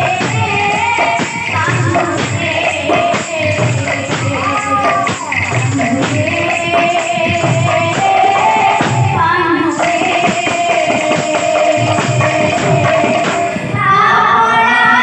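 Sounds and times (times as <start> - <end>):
barrel drum beating: 0.0 - 13.6
metal percussion: 0.0 - 13.8
woman singing into microphone: 0.0 - 15.0.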